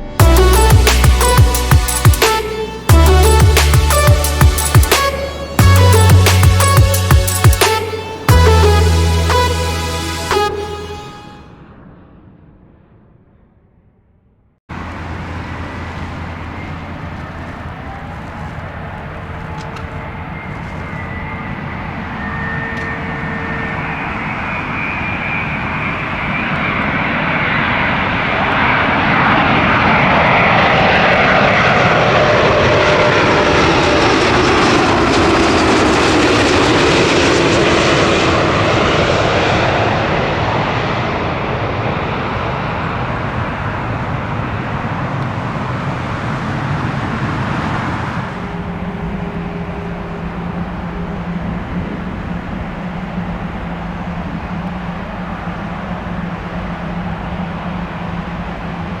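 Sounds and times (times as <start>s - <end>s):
jet airliner passing: 0.0s - 13.7s, 14.7s - 59.0s.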